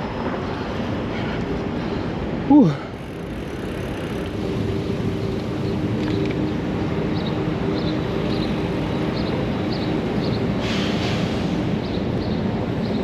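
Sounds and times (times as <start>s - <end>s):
wind and tyre noise: 0.0s - 13.0s.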